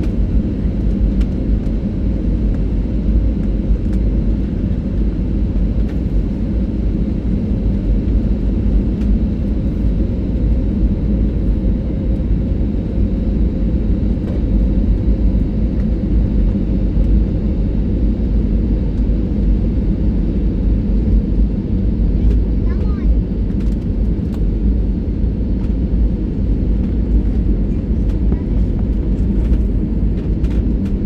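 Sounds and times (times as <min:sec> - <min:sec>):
jet engines droning: 0:00.0 - 0:31.0.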